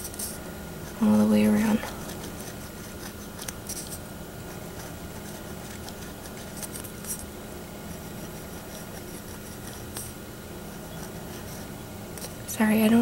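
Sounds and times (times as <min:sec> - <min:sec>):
pen scratching on foam: 0:00.0 - 0:07.2, 0:07.9 - 0:12.4
steady low hum: 0:00.0 - 0:13.0.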